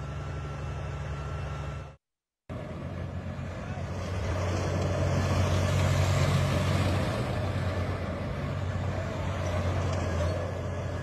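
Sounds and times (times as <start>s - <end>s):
tracked vehicle engine humming: 0.0s - 11.0s.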